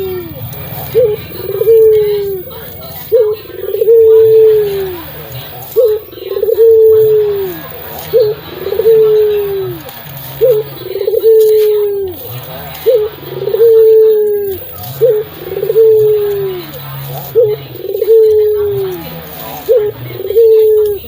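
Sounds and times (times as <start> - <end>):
dove cooing with trill: 0.0 - 21.0.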